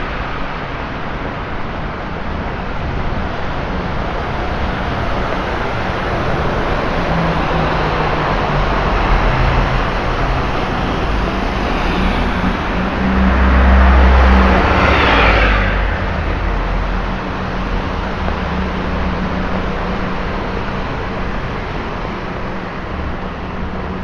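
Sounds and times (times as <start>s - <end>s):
traffic on wet road: 0.0s - 24.0s
vehicle passing with tyre spray: 2.9s - 24.0s.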